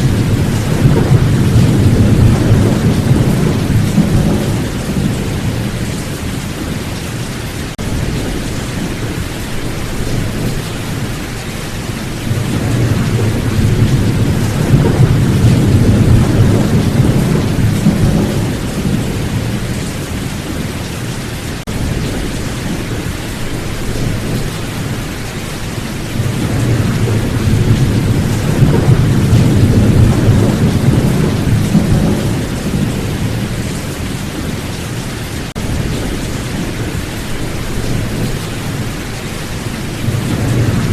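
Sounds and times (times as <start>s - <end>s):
heavy rain: 0.0s - 40.9s
rolling thunder: 0.0s - 40.9s.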